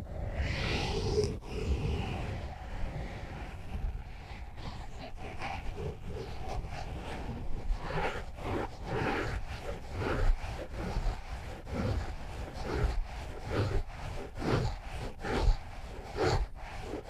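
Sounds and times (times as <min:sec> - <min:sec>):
microphone scratching: 0:00.3 - 0:17.0.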